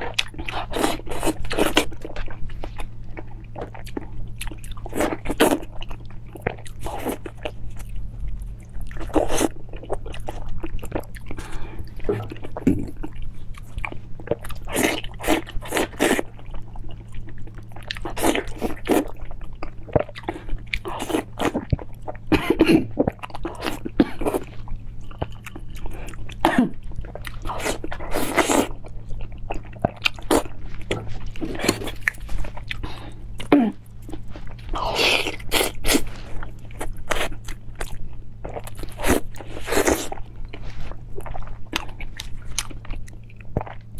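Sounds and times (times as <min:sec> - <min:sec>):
low hum: 0:00.0 - 0:43.9
wet crunching and chewing: 0:00.0 - 0:43.9.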